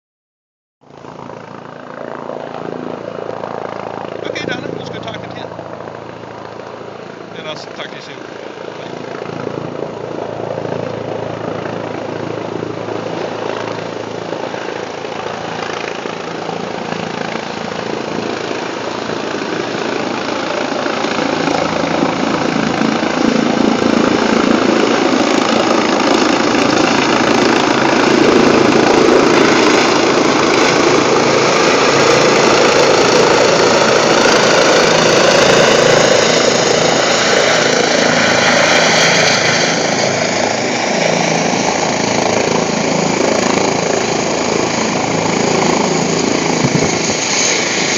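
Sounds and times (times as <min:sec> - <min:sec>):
helicopter rotor and turbine engines: 0:00.8 - 0:47.9.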